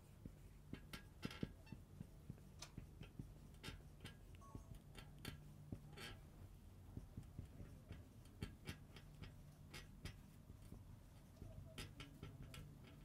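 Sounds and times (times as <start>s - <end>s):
marker writing on whiteboard: 0.0s - 13.0s.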